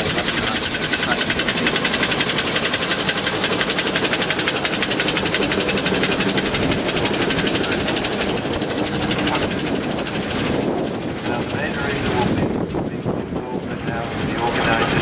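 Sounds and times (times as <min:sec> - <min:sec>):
steam locomotive engine clatter: 0:00.0 - 0:15.0.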